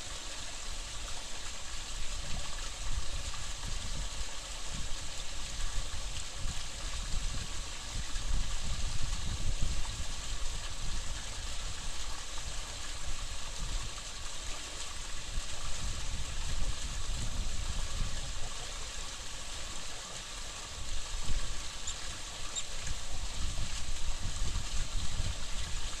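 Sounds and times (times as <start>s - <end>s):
stream water hissing: 0.0s - 26.0s.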